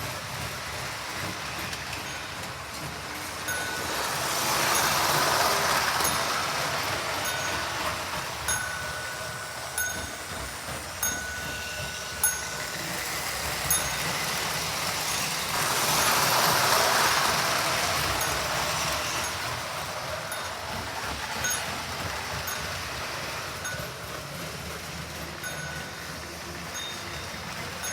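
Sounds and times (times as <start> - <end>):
rushing rumble of passing train: 0.0 - 27.9
toy train running on track: 0.0 - 27.9
train bell ringing: 0.0 - 27.9.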